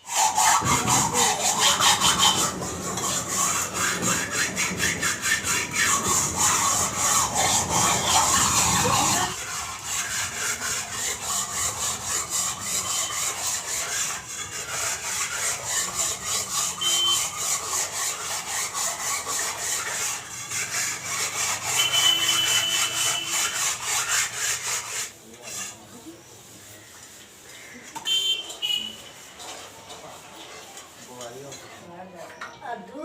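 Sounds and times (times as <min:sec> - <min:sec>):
rhythmic scraping strokes: 0:00.0 - 0:27.7, 0:28.4 - 0:31.9.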